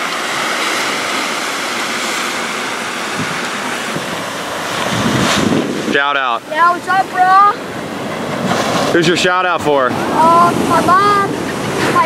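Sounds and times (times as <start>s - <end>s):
ocean surf breaking: 0.0s - 12.0s
wind on microphone: 0.0s - 12.0s.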